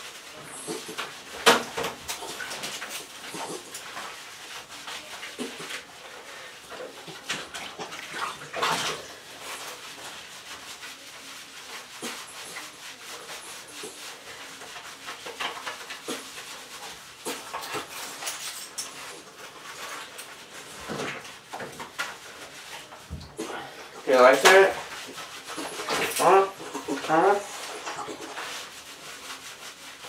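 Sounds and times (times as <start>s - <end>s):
bathwater sloshing and splashing: 0.0s - 30.0s.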